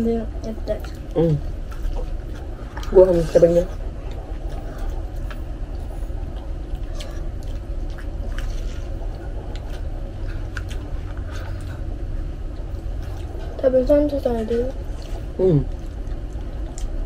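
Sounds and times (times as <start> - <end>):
steady low hum: 0.0 - 17.0
close chewing with wet clicks: 0.4 - 11.9, 12.5 - 17.0.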